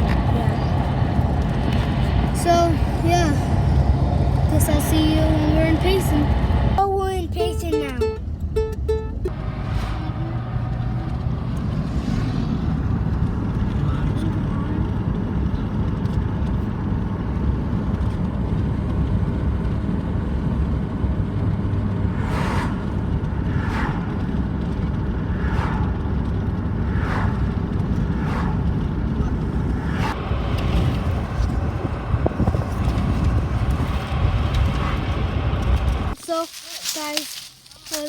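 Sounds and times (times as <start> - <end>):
road rumble inside car: 0.0 - 38.0.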